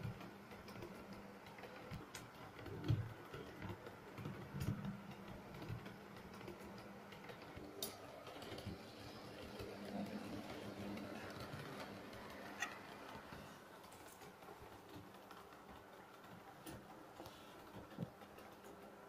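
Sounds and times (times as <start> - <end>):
model train wheels clicking: 0.0 - 19.0.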